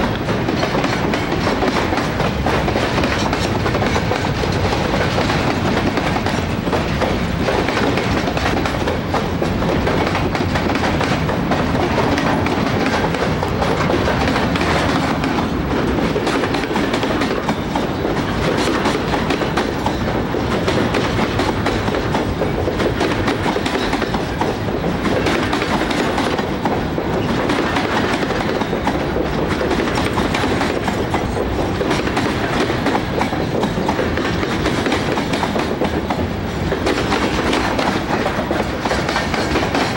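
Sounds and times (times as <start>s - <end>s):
train wheels rumbling on rail: 0.0s - 39.9s
wheels clicking over rail joints: 0.0s - 39.9s.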